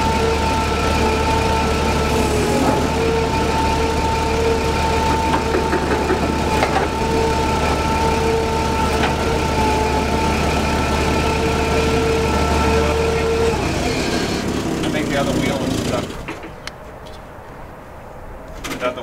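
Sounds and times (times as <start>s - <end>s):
engine whine over low hum: 0.0s - 16.3s
forklift engine running: 0.0s - 16.8s.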